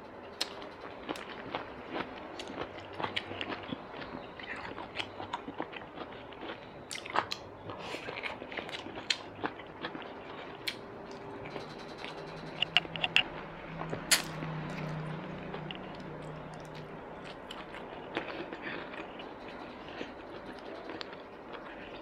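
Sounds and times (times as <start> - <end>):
low steady hum: 0.0 - 22.0
person chewing: 0.4 - 22.0.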